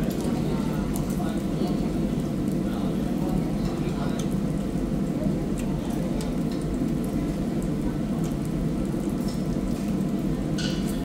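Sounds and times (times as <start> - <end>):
meat sizzling on a grill: 0.0 - 11.0.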